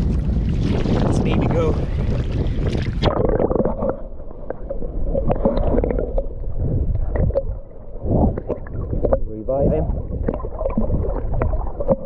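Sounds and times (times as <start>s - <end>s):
water sloshing and gurgling underwater: 0.0s - 12.0s.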